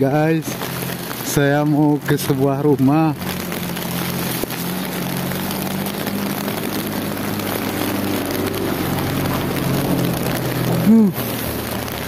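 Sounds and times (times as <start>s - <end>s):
rain hiss: 0.0s - 12.0s
low engine hum: 0.4s - 12.0s.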